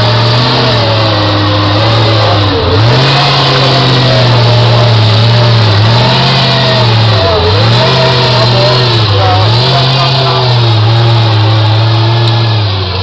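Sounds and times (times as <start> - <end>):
buggy engine revving hard: 0.0 - 13.0.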